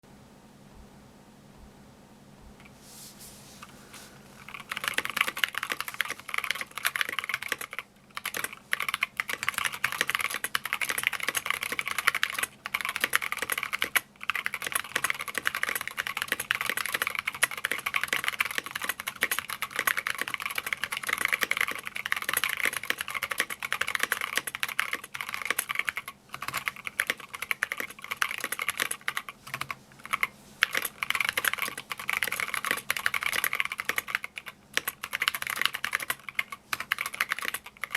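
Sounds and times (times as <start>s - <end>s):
fast typing on mechanical keyboard: 4.4s - 37.9s.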